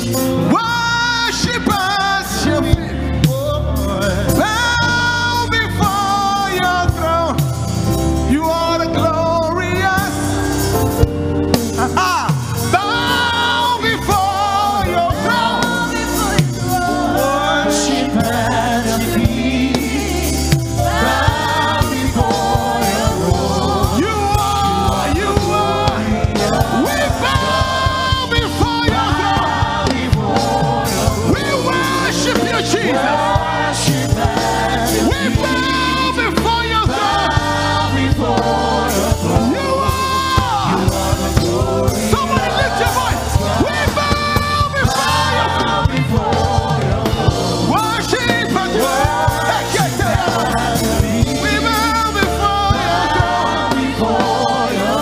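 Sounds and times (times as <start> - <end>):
gospel singers with band: 0.0 - 55.0.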